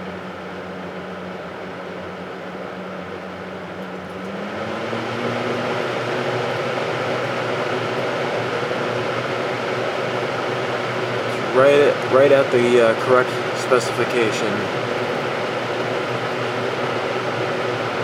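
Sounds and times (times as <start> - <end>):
box fan whirring: 0.0 - 18.0.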